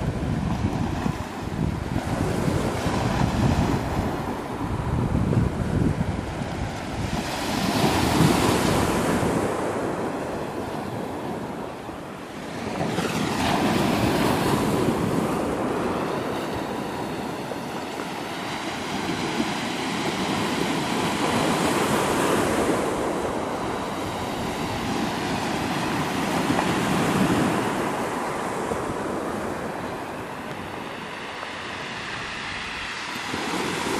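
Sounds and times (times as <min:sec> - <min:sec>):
waves washing on pebble beach: 0:00.0 - 0:33.9.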